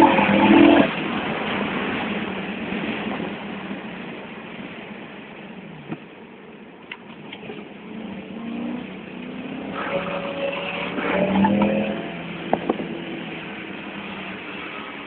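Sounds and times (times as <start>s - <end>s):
car engine revving: 0.0s - 4.8s, 7.2s - 15.0s.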